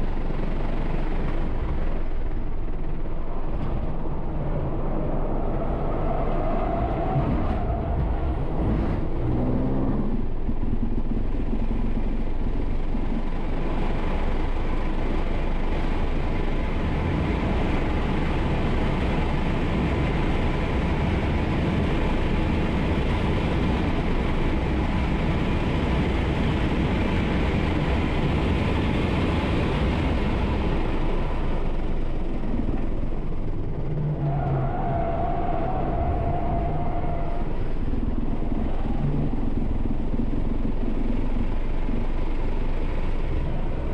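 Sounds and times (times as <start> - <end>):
wind and tyre noise in car cabin: 0.0 - 43.9.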